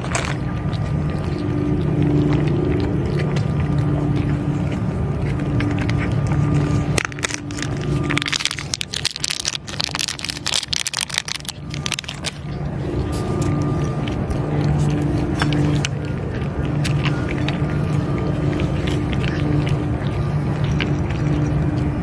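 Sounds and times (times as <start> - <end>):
cats crunching food: 0.0 - 22.0
low mechanical hum: 0.0 - 22.0.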